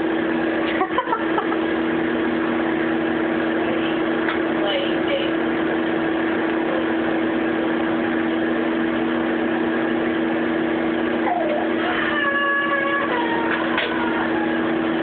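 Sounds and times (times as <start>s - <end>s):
microwave electrical hum: 0.0s - 15.0s
microwave fan whirring: 0.0s - 15.0s.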